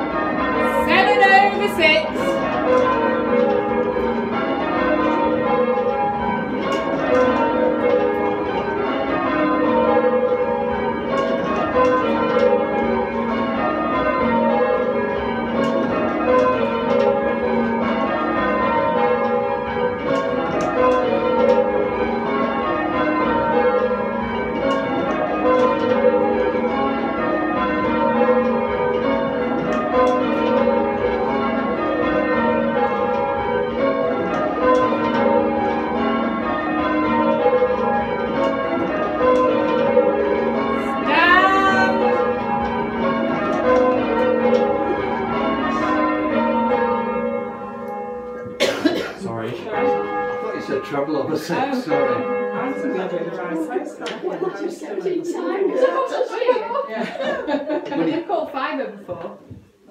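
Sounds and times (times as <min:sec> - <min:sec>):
church bells change ringing: 0:00.0 - 0:57.8.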